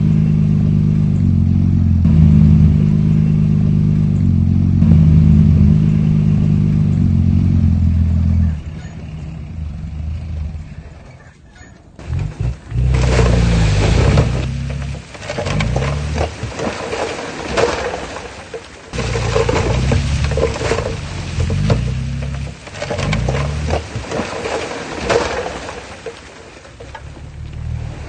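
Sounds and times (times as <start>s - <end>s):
diesel engine running: 0.0s - 11.2s, 11.8s - 28.0s.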